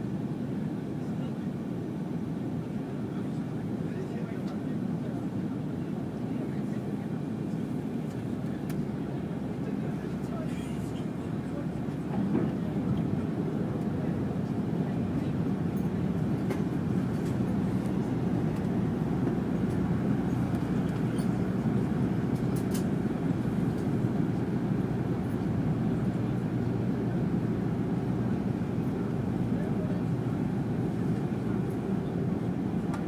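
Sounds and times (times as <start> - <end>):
airliner cabin engine rumble: 0.0 - 33.0.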